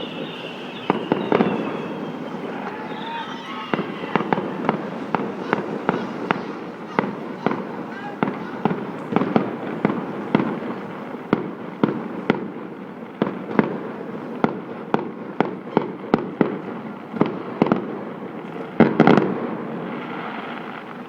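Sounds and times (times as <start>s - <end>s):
fireworks bangs: 0.0s - 21.0s
fireworks rumbling crackle: 0.0s - 21.0s.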